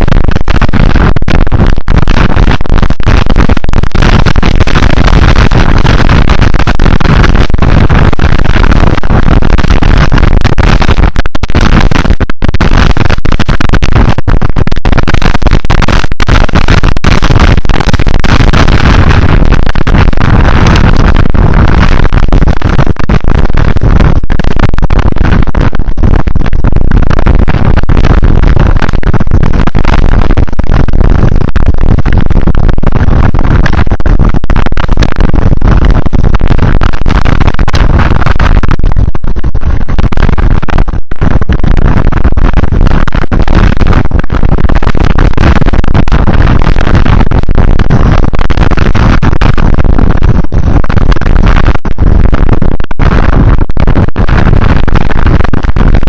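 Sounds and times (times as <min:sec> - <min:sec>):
distorted wind and rain roar: 0:00.0 - 0:56.0.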